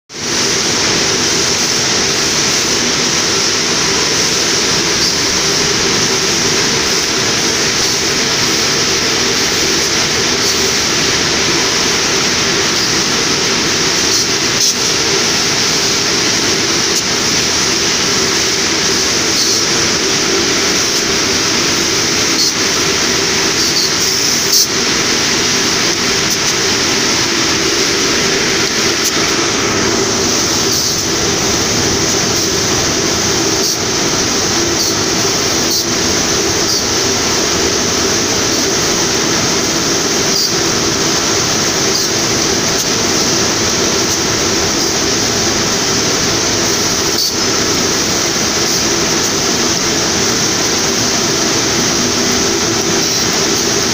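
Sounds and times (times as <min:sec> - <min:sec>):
winding machine whirring: 0:00.2 - 0:53.9.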